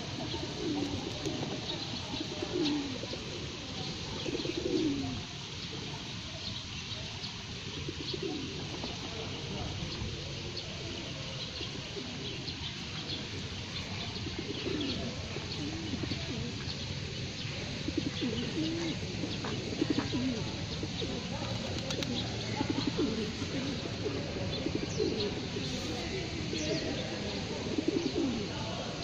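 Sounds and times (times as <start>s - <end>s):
pigeons cooing: 0.0s - 6.2s, 7.3s - 28.6s
small birds chirping faintly: 0.0s - 29.0s.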